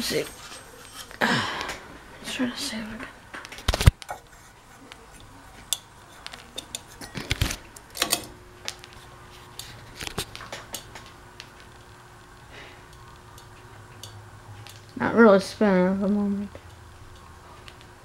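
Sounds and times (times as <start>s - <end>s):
fan motor low hum: 0.0s - 18.0s.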